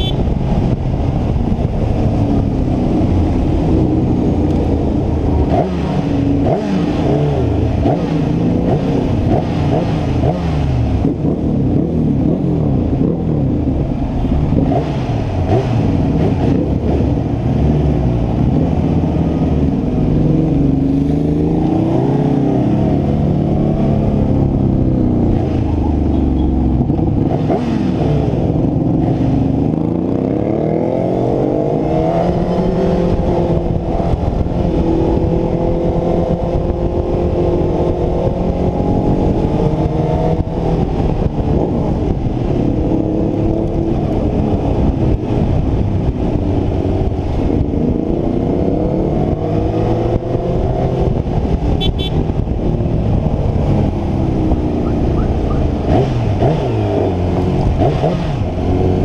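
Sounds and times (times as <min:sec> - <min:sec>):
motorcycle engine revving: 0:00.0 - 0:59.0
wind and road rush: 0:00.0 - 0:59.0.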